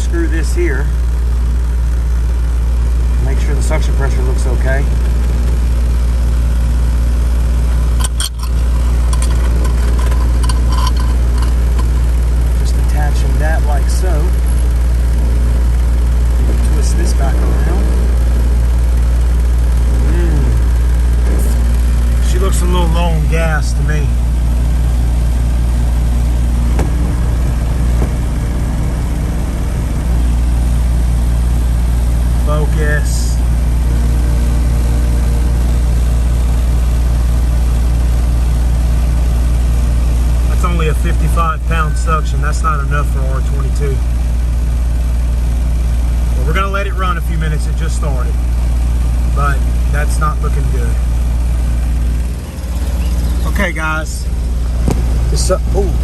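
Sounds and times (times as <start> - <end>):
condensing unit humming: 0.0 - 56.0.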